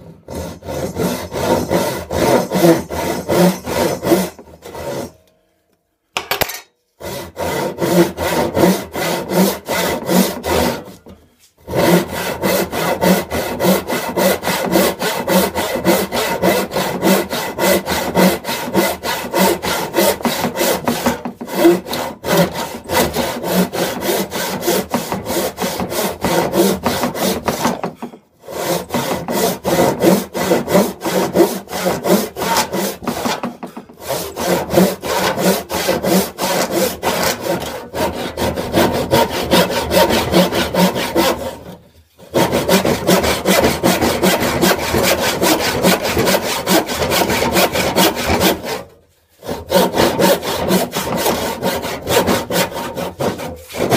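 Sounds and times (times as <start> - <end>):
hand saw cutting wood: 0.0 - 5.2, 7.0 - 53.9.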